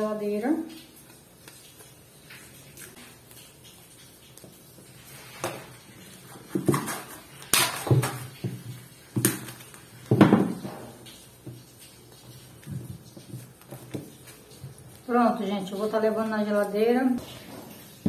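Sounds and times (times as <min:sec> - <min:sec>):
cling film crackling and rustling: 0:00.7 - 0:18.0.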